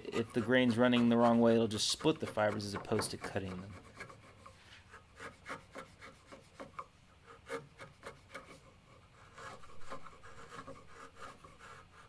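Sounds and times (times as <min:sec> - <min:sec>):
chisel scraping wood: 0:00.0 - 0:12.0.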